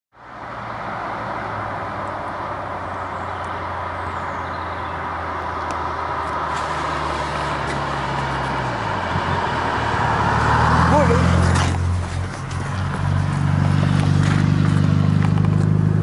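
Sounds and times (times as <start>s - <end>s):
turbocharged car engine droning: 1.6s - 16.0s.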